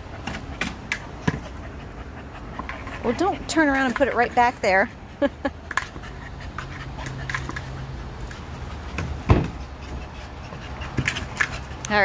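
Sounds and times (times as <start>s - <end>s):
dog panting: 1.3s - 12.0s.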